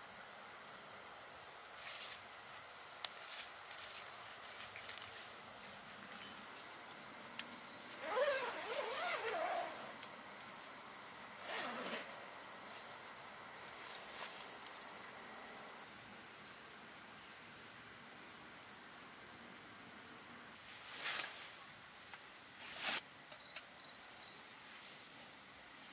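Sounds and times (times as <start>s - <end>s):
night insects trilling: 0.0s - 25.9s.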